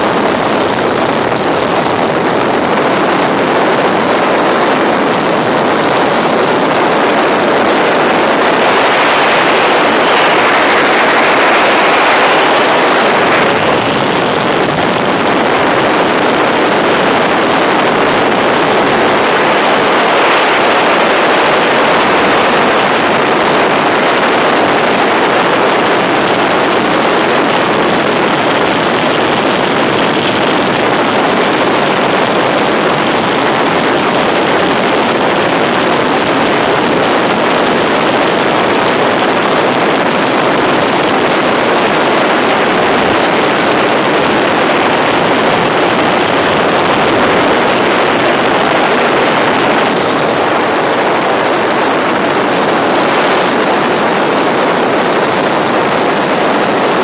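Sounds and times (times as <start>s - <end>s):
helicopter rotor and engine noise: 0.0s - 57.0s.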